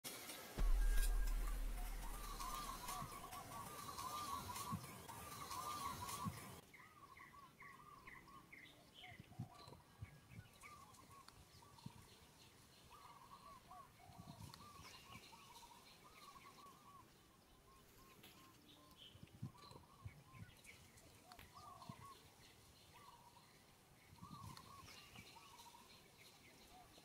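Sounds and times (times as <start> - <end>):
light background hiss: 0.1 - 27.0
bird chirping: 0.2 - 27.0.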